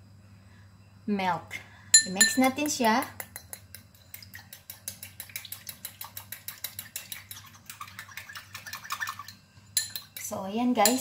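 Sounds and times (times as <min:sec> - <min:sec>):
utensil beating in glass bowl: 0:02.0 - 0:11.0.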